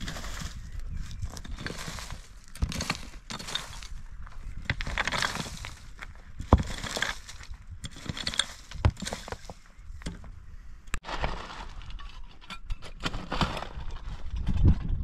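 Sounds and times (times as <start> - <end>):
shovel scraping stony soil: 0.0 - 14.7
rocks knocking and grating: 0.0 - 15.0.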